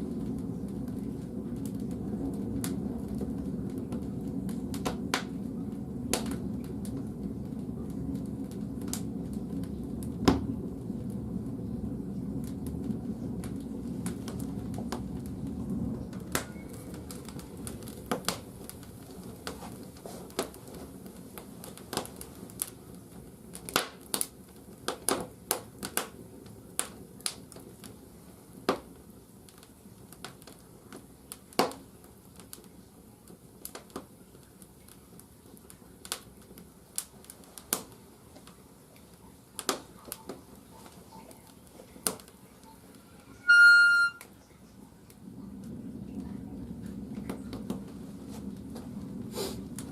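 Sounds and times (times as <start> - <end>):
firewood crackling and popping: 0.0 - 49.9.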